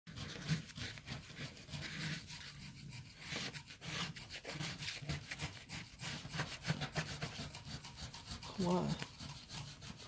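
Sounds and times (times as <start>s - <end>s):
coin scraping scratch card: 0.1s - 10.0s.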